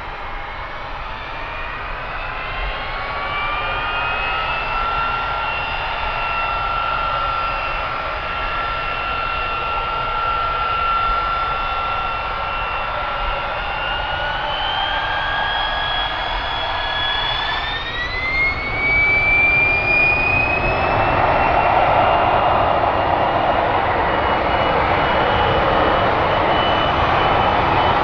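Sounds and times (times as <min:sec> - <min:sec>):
jet engine roar: 0:00.0 - 0:28.0
jet engine whine: 0:00.0 - 0:28.0.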